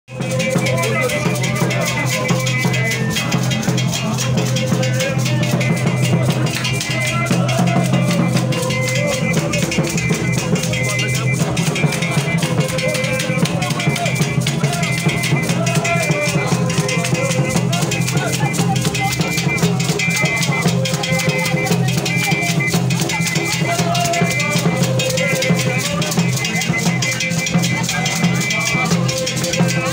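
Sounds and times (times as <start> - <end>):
drums and rattles: 0.1 - 29.9
voices singing: 0.1 - 29.9.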